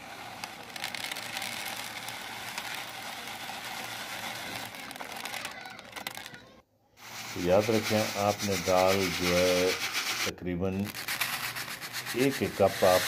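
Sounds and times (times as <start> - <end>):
lentils pouring onto plastic tray: 0.0 - 6.4, 7.0 - 13.0.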